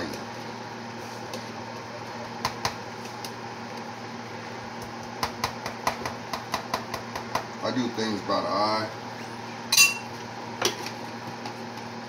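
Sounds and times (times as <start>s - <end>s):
kitchen fan humming: 0.0s - 12.0s.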